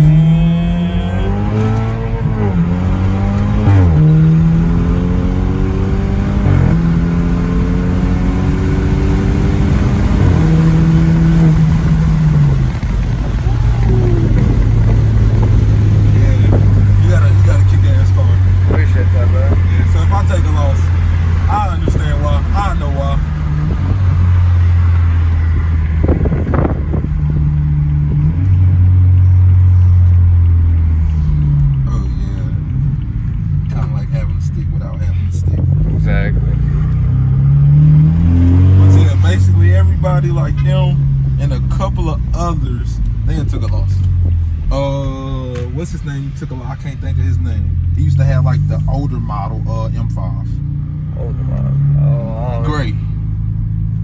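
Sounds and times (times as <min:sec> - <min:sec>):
car engine at full throttle: 0:00.0 - 0:54.0.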